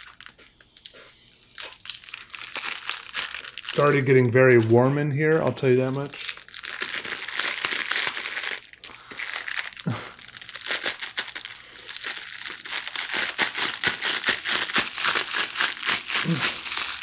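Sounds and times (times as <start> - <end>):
stiff paper glove crinkling: 0.0 - 17.0.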